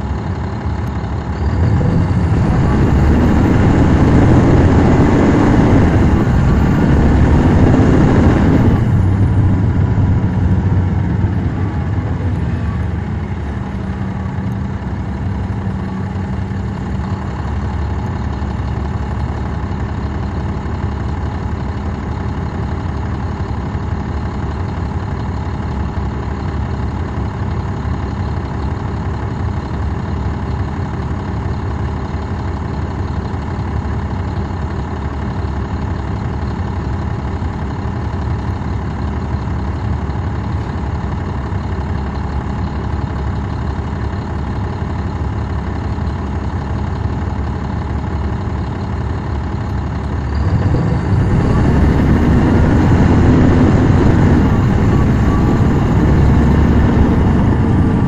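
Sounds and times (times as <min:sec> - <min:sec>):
diesel bus engine idling: 0:00.0 - 0:58.0.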